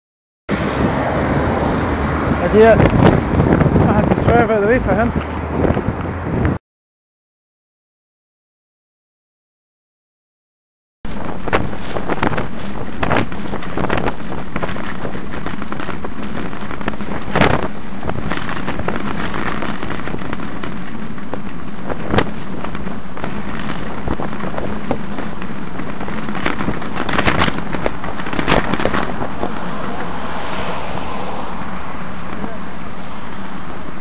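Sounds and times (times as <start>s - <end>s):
wind and road noise: 0.5s - 6.6s, 11.0s - 34.0s.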